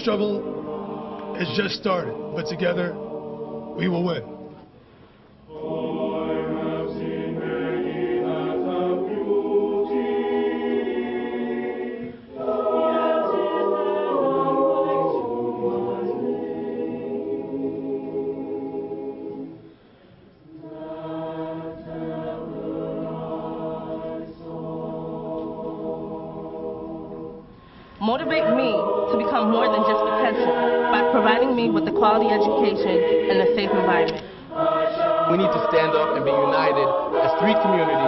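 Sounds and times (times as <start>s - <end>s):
young voices singing in chorus: 0.0s - 4.8s, 5.4s - 19.7s, 20.4s - 38.0s.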